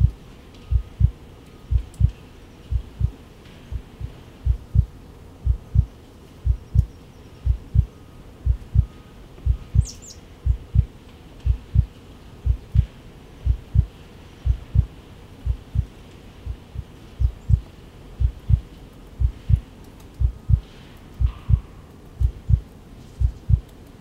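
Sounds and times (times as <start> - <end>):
heartbeat thumps: 0.0 - 19.6, 20.2 - 22.6, 23.2 - 23.7.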